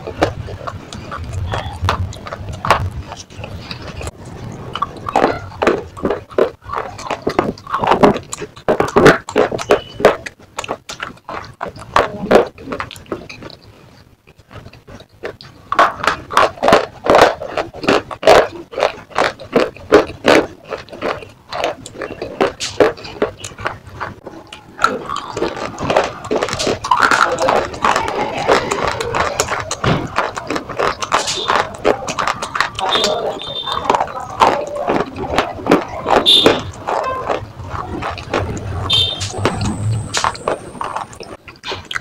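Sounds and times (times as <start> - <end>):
crunching and chewing slate: 0.0 - 42.0.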